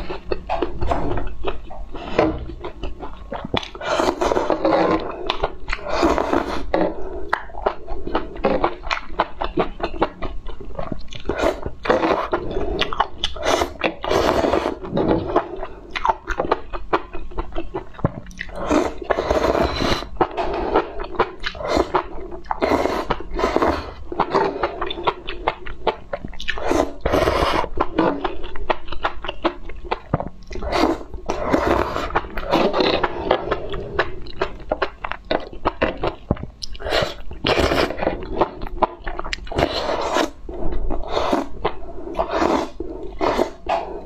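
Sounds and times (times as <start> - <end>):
chewing and crunching mushrooms: 0.0 - 44.0.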